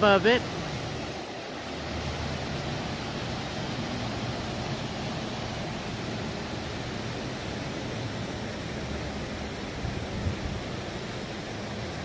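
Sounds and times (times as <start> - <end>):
whitewater rapids rushing: 0.0 - 12.0.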